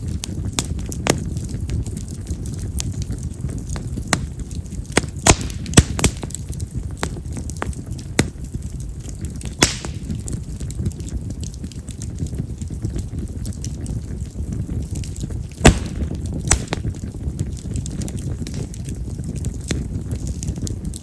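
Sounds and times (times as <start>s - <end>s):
campfire flames rumbling: 0.0s - 21.0s
wood crackling and popping: 0.0s - 21.0s.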